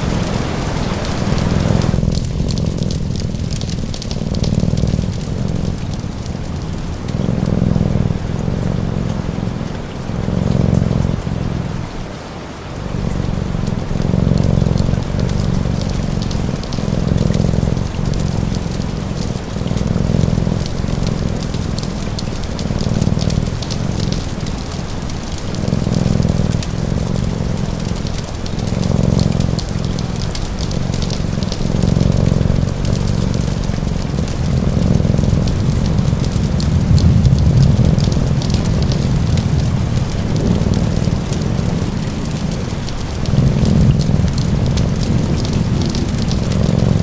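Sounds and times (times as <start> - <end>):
cat purring: 0.0 - 47.0
steady rain: 0.0 - 47.0
wood fire crackling: 0.0 - 47.0.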